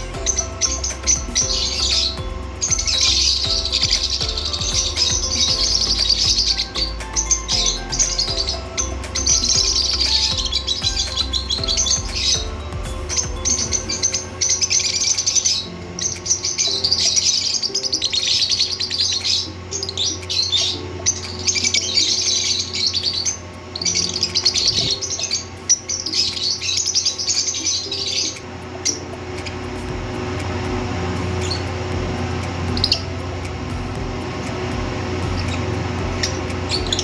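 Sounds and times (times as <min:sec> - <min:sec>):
lovebirds chirping: 0:00.0 - 0:37.0.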